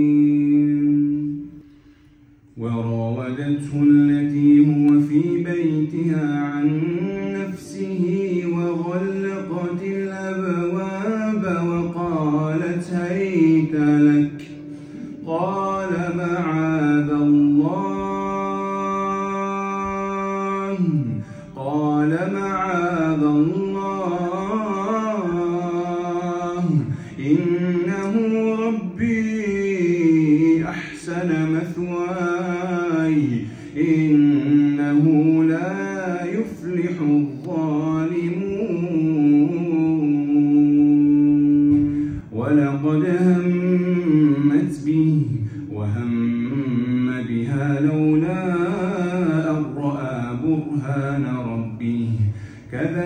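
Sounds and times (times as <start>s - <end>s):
man chanting melodically: 0.0s - 1.7s, 2.4s - 53.0s.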